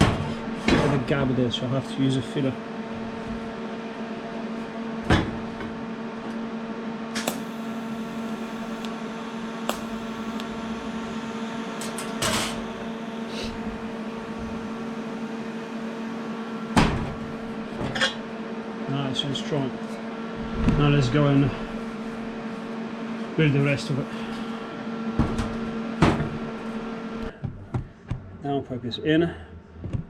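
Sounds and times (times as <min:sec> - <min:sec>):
welder electrical hum: 0:00.0 - 0:30.0.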